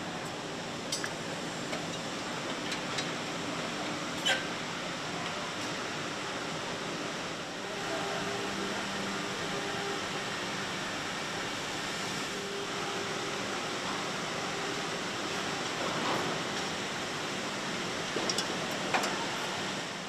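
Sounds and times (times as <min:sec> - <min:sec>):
factory machinery noise: 0:00.0 - 0:20.0.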